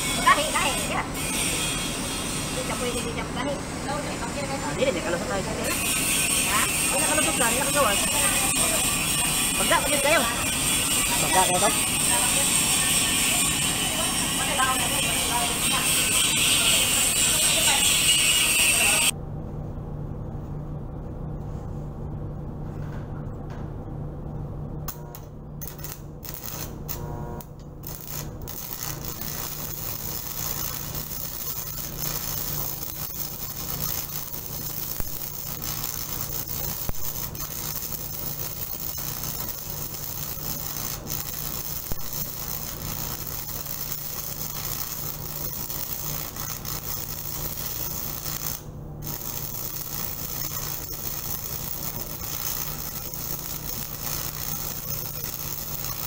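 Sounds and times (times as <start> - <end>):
welding arc crackling: 0.0 - 19.2, 24.9 - 56.0
steady low hum: 0.0 - 56.0.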